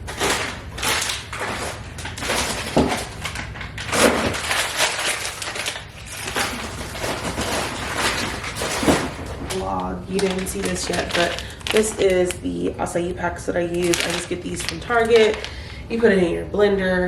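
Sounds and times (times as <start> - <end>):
plastic packaging crinkling: 0.0 - 15.8.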